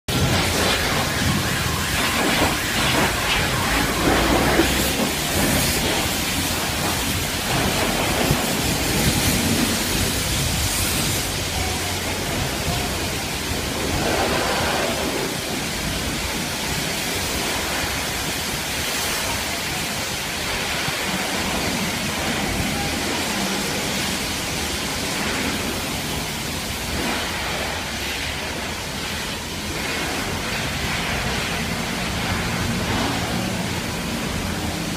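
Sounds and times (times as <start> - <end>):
water spray hissing: 0.1 - 34.9.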